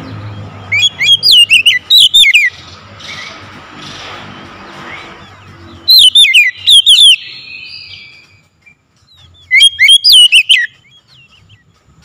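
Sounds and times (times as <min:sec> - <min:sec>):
bird singing whistled notes: 0:00.2 - 0:03.4, 0:04.8 - 0:11.7.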